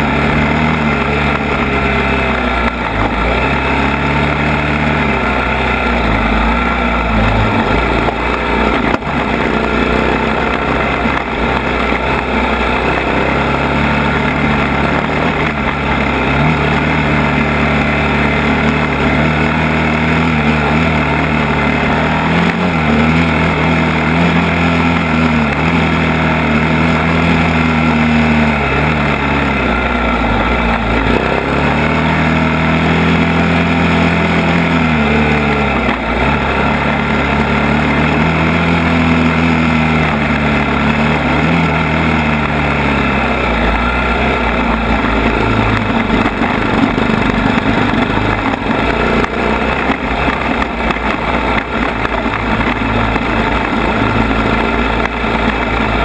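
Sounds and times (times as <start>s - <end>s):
atv engine revving: 0.0s - 56.0s
trail noise: 0.0s - 56.0s.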